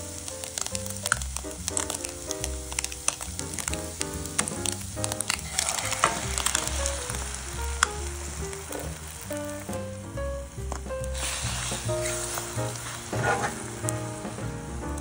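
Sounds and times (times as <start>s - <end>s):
background music with bass line: 0.0s - 15.0s
food sizzling in a frying pan: 0.0s - 15.0s.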